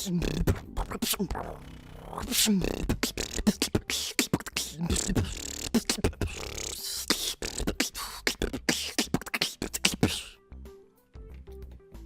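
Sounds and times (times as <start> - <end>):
human beatboxing: 0.0 - 10.4.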